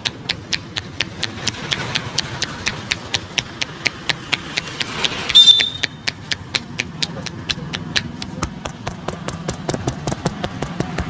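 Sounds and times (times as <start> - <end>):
hand tapping head massage: 0.0 - 11.0.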